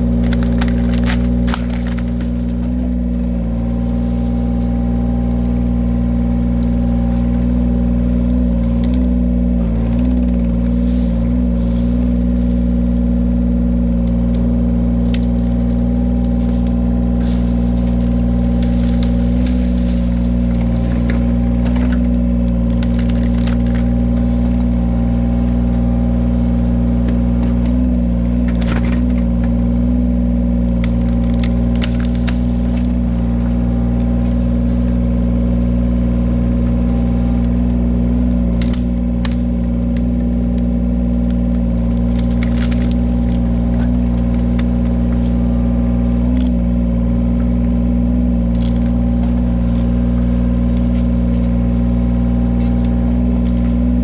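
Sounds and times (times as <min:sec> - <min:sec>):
engine running: 0:00.0 - 0:54.0
wood cracking and snapping: 0:00.0 - 0:54.0.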